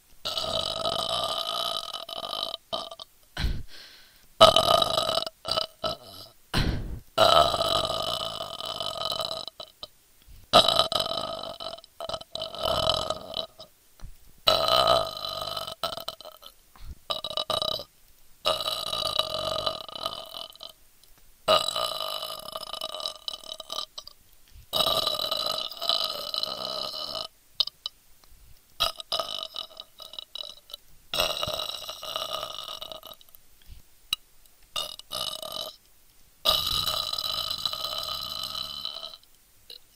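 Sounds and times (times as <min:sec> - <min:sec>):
person burping: 0:00.2 - 0:03.8, 0:04.4 - 0:09.9, 0:10.6 - 0:13.7, 0:14.5 - 0:20.8, 0:21.5 - 0:24.2, 0:24.8 - 0:28.0, 0:28.8 - 0:33.3, 0:34.8 - 0:35.8, 0:36.4 - 0:39.9.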